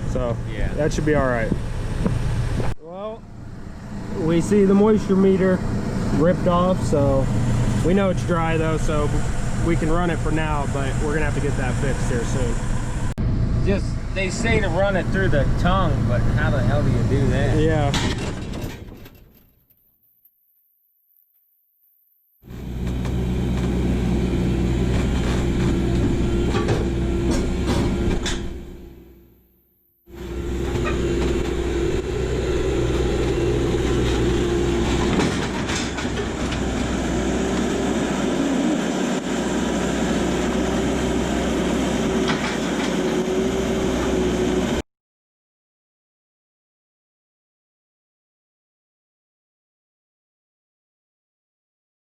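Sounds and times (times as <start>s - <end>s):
tractor engine drone: 0.0s - 19.8s, 22.4s - 44.8s
baler whine: 0.0s - 44.8s.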